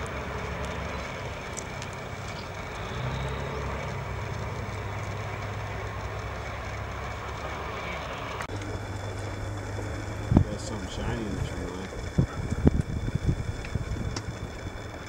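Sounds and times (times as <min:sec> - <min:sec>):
tracked armoured vehicles rumbling: 0:00.0 - 0:15.0.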